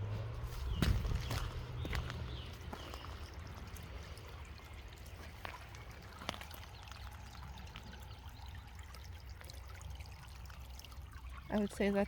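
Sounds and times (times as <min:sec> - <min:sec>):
faint trickling water: 0:00.0 - 0:12.0.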